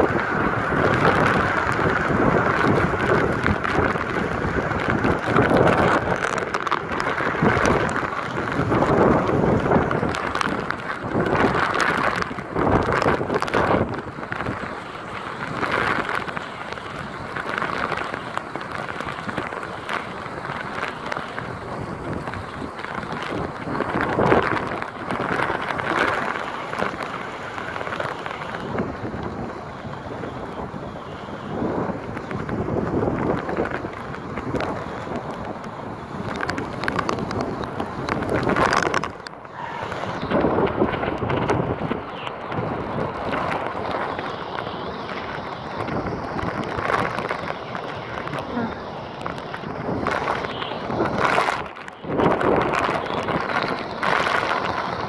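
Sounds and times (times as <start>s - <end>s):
heavy rain: 0.0s - 55.0s
hurricane wind: 0.0s - 55.0s
wind buffeting microphone: 0.0s - 55.0s.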